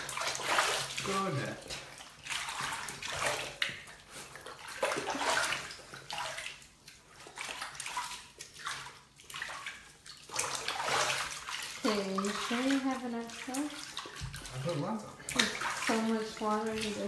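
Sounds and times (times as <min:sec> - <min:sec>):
bathwater sloshing and splashing: 0:00.0 - 0:17.0.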